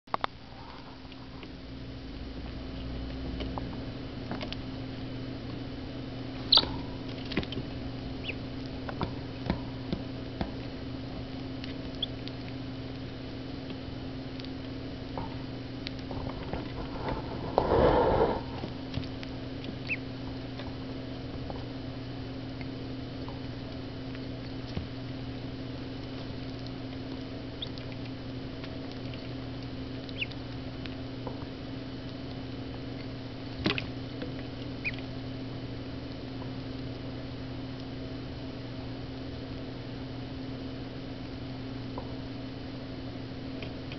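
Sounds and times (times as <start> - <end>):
ducklings pecking and scrabbling: 0.1 - 39.6
steady electrical hum: 0.1 - 43.9.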